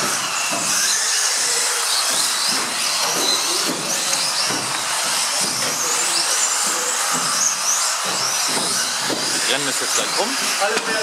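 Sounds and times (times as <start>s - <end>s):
rc car motor whine: 0.0s - 11.0s.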